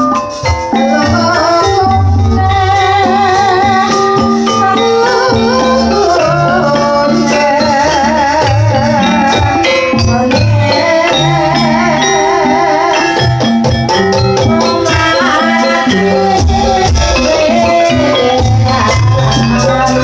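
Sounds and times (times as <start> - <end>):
high melody with vibrato: 0.0 - 20.0
metallic percussion: 0.0 - 20.0
sustained pitched tones: 0.8 - 20.0.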